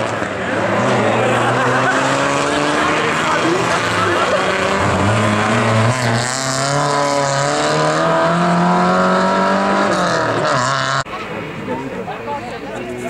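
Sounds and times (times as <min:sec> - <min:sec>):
car engine revving hard: 0:00.0 - 0:11.1.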